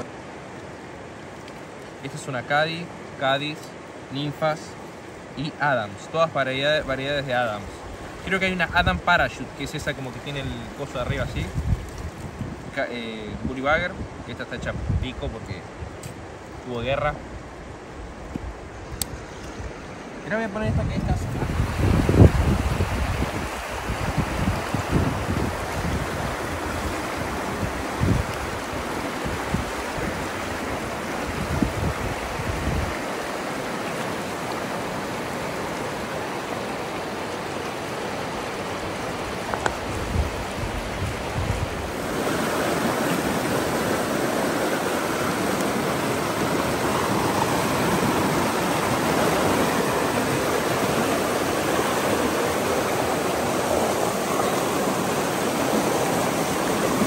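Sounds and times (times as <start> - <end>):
river water rushing over rocks: 0.0 - 14.9, 15.6 - 57.0
wind on microphone: 7.6 - 57.0.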